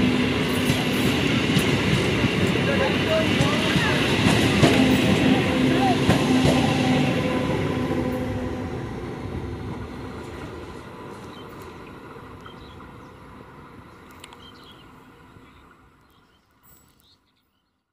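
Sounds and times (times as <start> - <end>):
train rumble and wheel noise: 0.0 - 16.0.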